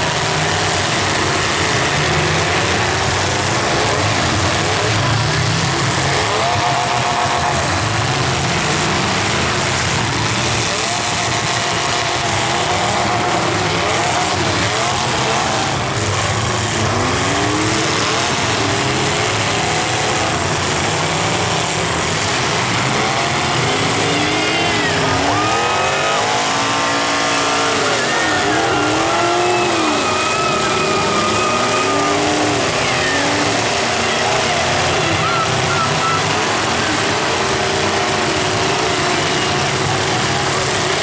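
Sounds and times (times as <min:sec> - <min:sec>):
car engines revving hard: 0:00.0 - 0:41.0
running cars noise: 0:00.0 - 0:41.0.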